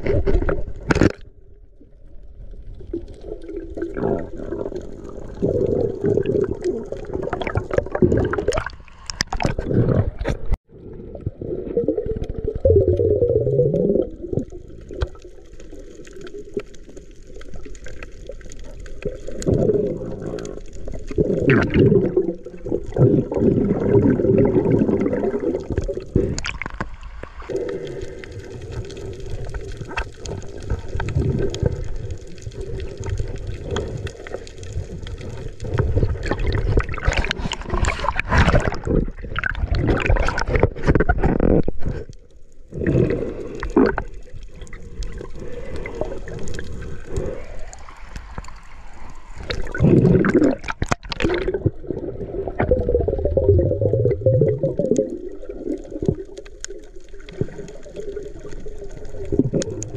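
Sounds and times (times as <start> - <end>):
muffled underwater sloshing: 0.0 - 59.9.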